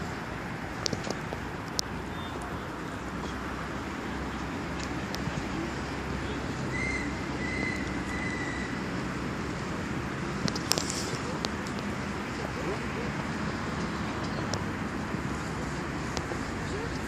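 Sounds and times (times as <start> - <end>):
distant traffic: 0.0 - 17.0
wind: 0.0 - 17.0.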